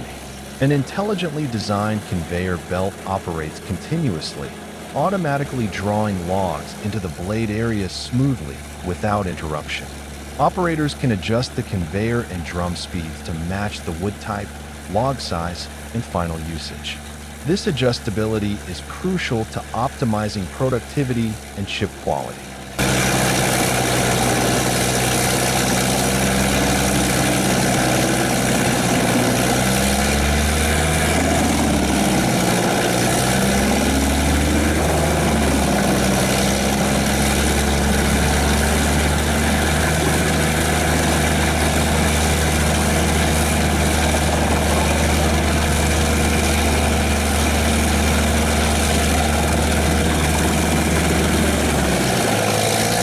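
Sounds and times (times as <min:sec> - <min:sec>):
diesel engine running hard: 0:00.0 - 0:53.0.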